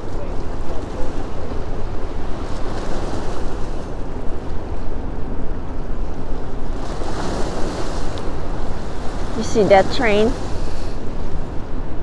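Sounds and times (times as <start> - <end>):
choppy river water: 0.0 - 12.0.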